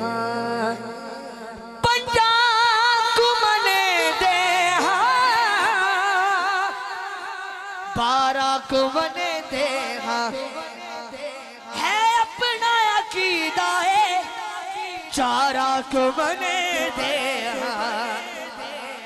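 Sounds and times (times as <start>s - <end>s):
man singing with vibrato: 0.0s - 19.0s.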